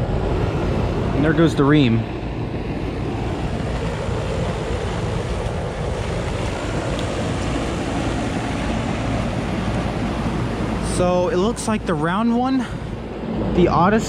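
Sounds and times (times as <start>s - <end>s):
air conditioner unit humming: 0.0s - 14.0s.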